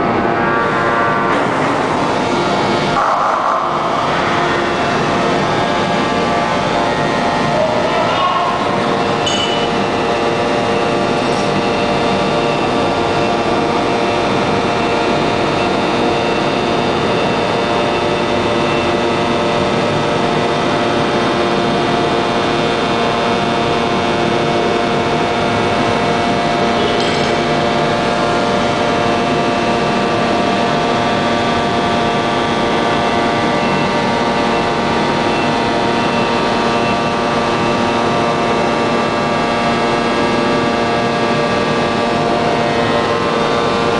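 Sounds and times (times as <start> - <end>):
forging press drone: 0.0 - 43.9.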